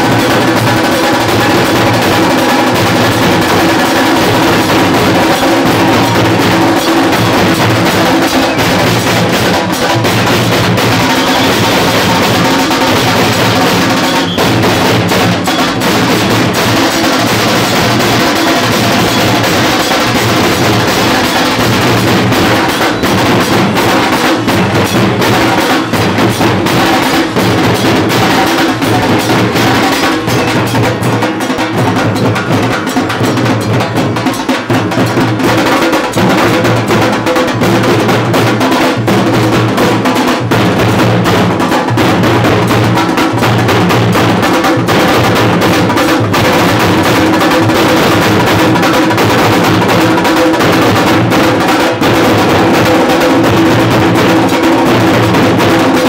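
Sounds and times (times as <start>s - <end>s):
fast drumming on large drums: 0.0s - 56.0s.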